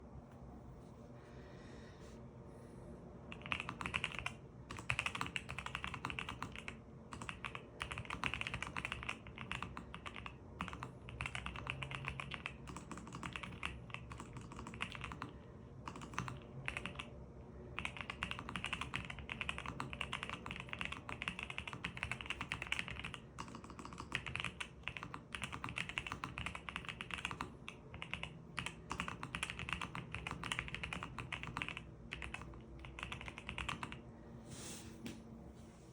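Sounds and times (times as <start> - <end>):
mechanical keyboard typing: 3.3 - 17.1, 17.7 - 34.0.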